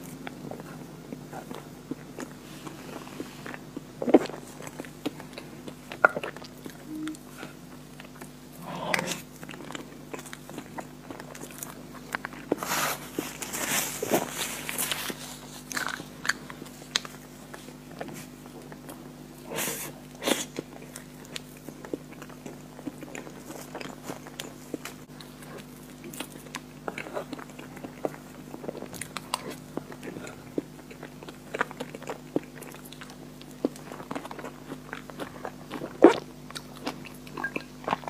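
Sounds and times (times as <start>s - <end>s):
chewing and lip smacks: 0.0s - 12.7s, 20.0s - 38.0s.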